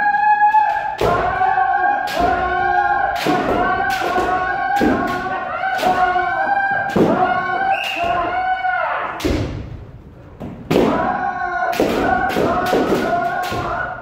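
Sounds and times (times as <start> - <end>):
people shouting drawn-out cries: 0.0 - 9.2, 10.8 - 14.0.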